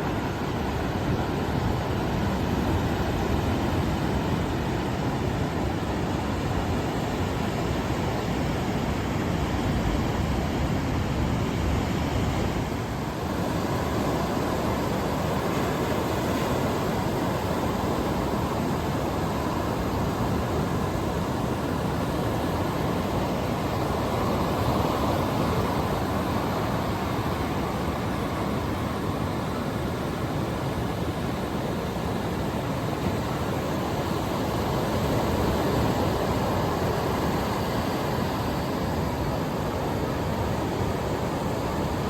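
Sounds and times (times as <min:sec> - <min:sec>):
ocean surf breaking on beach: 0:00.0 - 0:42.0.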